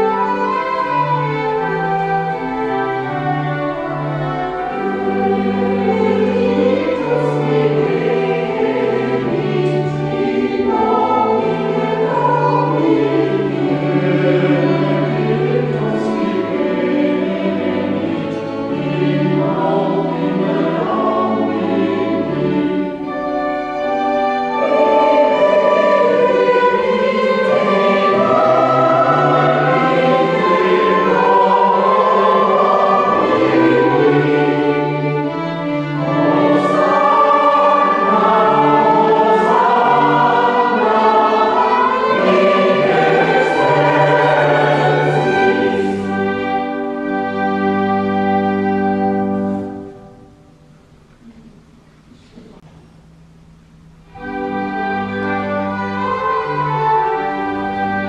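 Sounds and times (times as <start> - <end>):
choir singing: 0.0 - 50.6, 54.1 - 58.0
organ holding low notes: 0.0 - 53.1, 54.0 - 58.0.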